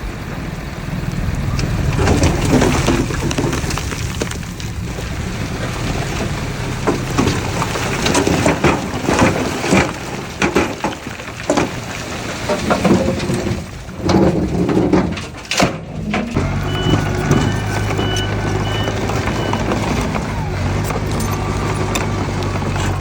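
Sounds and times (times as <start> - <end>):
heavy machinery engine running: 0.0 - 23.0
machinery clanks and knocks: 0.1 - 23.0.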